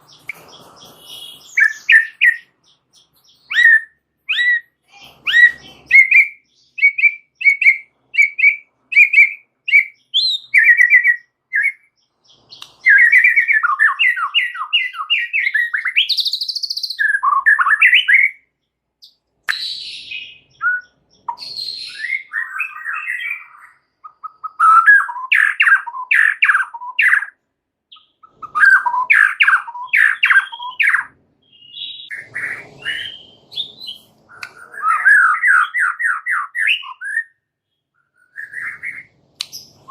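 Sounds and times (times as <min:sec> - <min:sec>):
songbird singing whistles and rattles: 0:00.0 - 0:39.9.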